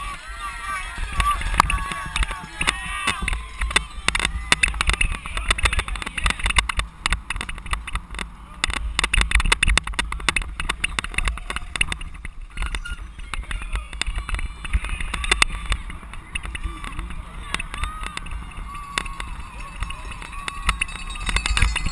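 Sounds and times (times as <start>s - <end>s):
bike rattling over bumpy grass: 0.0s - 21.9s
wind rumbling on microphone: 0.0s - 21.9s.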